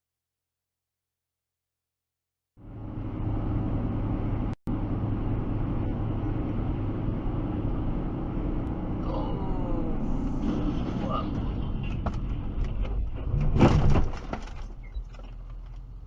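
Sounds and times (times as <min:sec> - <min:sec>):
road noise: 0:02.6 - 0:16.0
vehicle engine rumble: 0:02.6 - 0:16.0.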